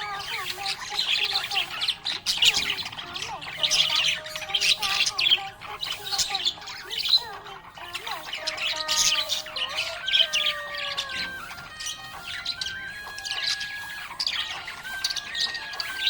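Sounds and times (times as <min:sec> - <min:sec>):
budgerigar chirping and chattering: 0:00.0 - 0:16.0.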